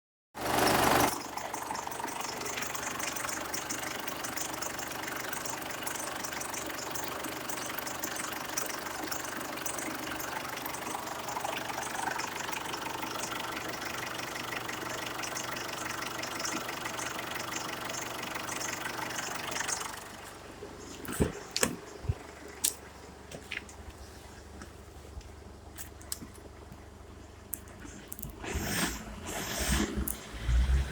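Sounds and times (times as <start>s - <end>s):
diesel engine idling: 0.4s - 30.9s.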